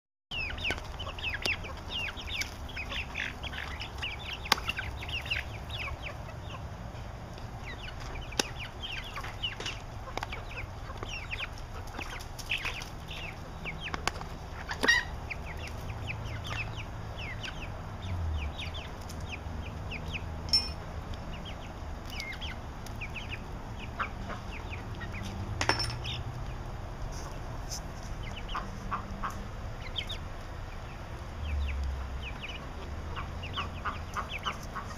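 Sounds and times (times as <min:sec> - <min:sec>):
chickens cheeping: 0:00.3 - 0:34.9.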